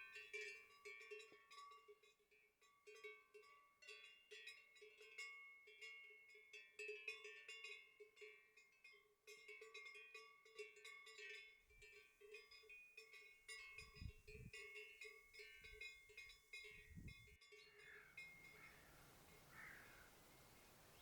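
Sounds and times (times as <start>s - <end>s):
faint metal bells clanking: 0.0s - 21.0s.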